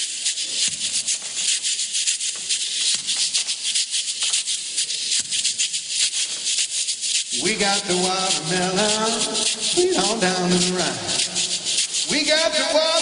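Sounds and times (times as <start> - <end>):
washboard scraped in rhythm: 0.0 - 13.0.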